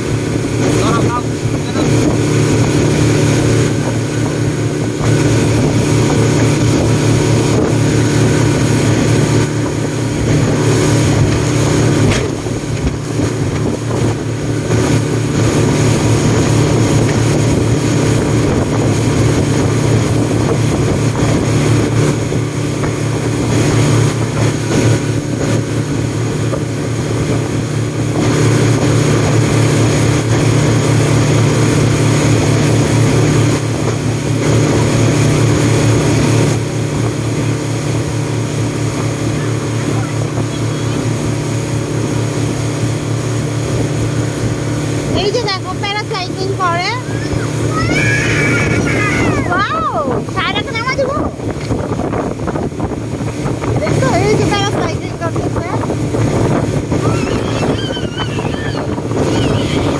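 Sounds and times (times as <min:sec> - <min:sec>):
speedboat engine running: 0:00.0 - 0:59.9
wind buffeting microphone: 0:00.0 - 0:59.9.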